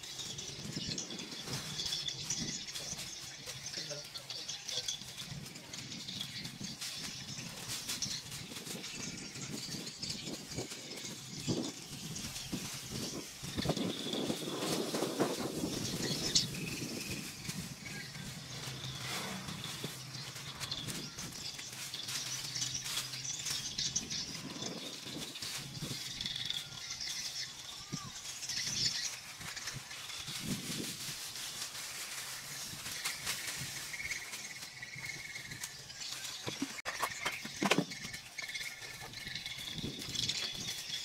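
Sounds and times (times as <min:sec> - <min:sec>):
birds chirping: 0:00.0 - 0:30.8, 0:31.5 - 0:41.0.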